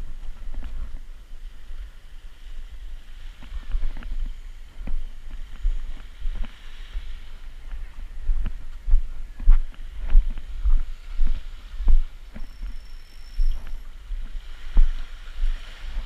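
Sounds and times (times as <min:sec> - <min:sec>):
wind rumble on microphone: 0:00.0 - 0:16.0
faint hiss of sea: 0:01.0 - 0:08.2, 0:09.7 - 0:16.0.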